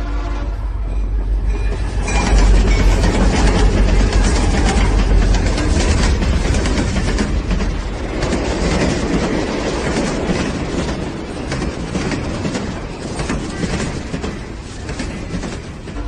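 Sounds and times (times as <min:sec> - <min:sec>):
train coaches rumbling: 0:00.0 - 0:16.0
wheels clicking over rail joints: 0:01.2 - 0:16.0.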